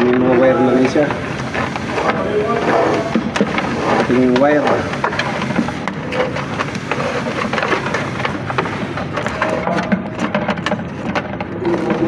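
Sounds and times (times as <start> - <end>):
wire scraping and rustling: 0.0 - 12.0.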